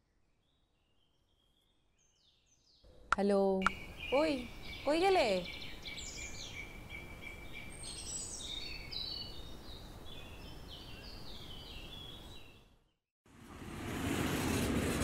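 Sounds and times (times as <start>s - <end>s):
birds chirping: 0.3s - 12.9s.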